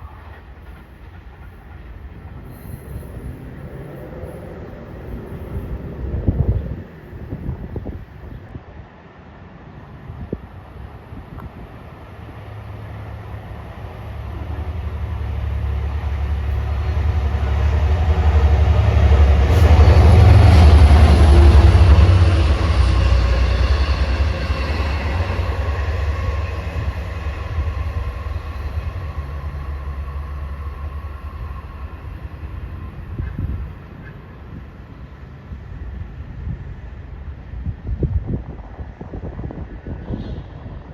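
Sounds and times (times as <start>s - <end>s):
train passing with low rumble: 0.0s - 40.9s.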